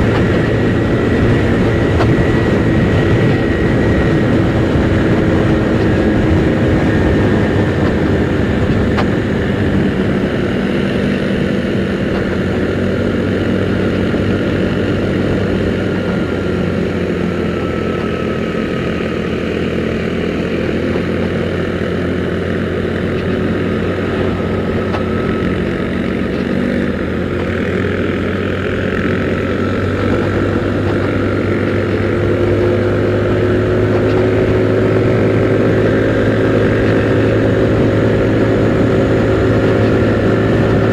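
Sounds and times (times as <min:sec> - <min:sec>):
scooter engine running: 0:00.0 - 0:40.9
wind noise: 0:00.0 - 0:40.9.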